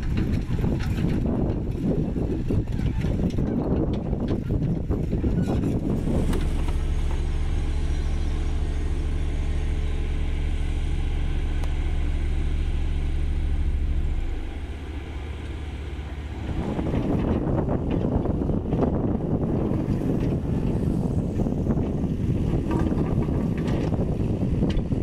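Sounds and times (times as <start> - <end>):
quiet rumble: 0.0 - 25.0
soil compactor droning: 0.0 - 25.0.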